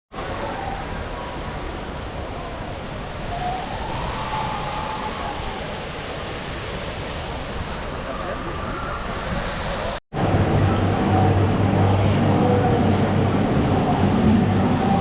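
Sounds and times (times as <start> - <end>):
flowing water rushing: 0.1 - 15.0.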